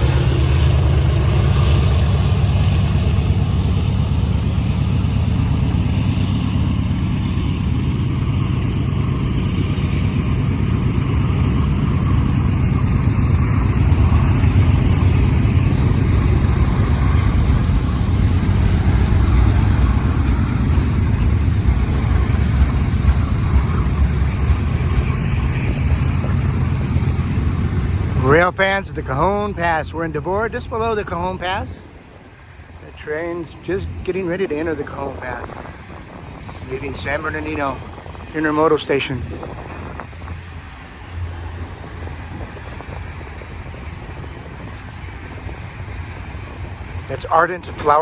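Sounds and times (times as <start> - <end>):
diesel locomotive engine rumble: 0.0 - 48.0.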